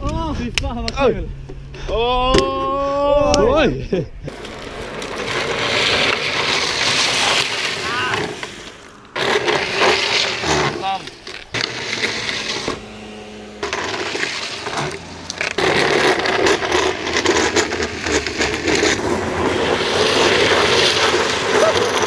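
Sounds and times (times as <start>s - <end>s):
plastic wheels scraping on asphalt: 4.3s - 22.0s.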